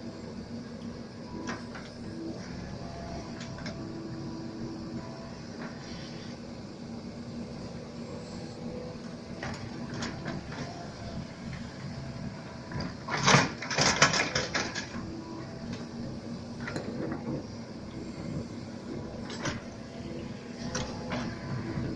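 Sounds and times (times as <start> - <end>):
excavator motor hum: 0.0 - 21.9.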